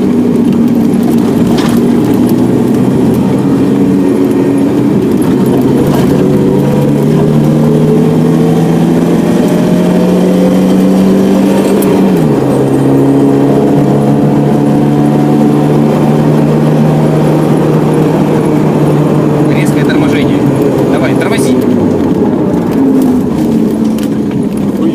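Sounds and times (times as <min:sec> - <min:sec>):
car engine running: 0:00.0 - 0:24.9
road noise: 0:00.0 - 0:24.9.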